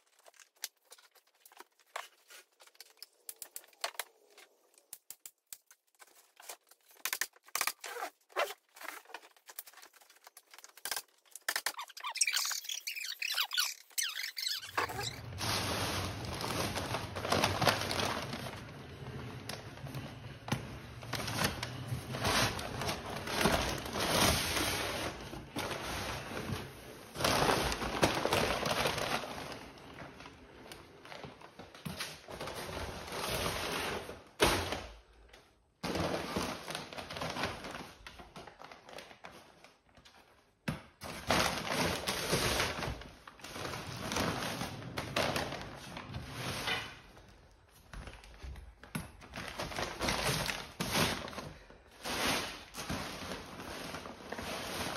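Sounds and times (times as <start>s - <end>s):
paper and plastic rustling: 0.0s - 34.8s, 35.9s - 54.9s.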